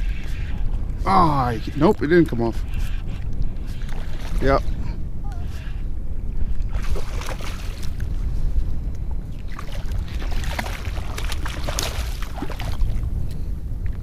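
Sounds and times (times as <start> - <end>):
water sloshing around kayak: 0.0 - 5.5, 6.3 - 8.4, 9.3 - 13.3
wind rumble on microphone: 0.0 - 14.0.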